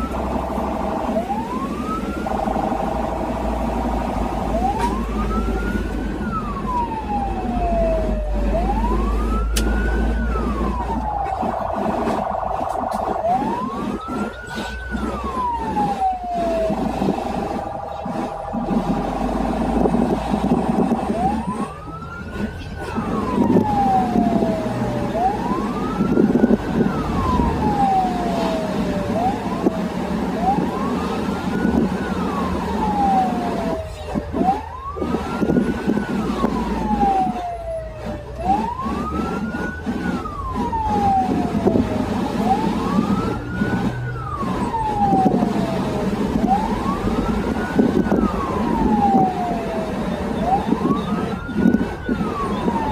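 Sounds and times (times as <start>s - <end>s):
ambulance siren wailing: 0.0s - 52.9s
vehicle engine and road noise: 0.0s - 52.9s.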